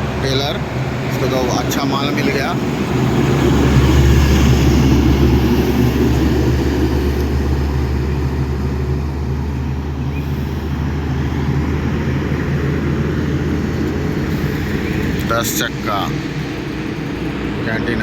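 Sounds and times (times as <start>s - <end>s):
heavy truck passing: 0.0s - 18.0s.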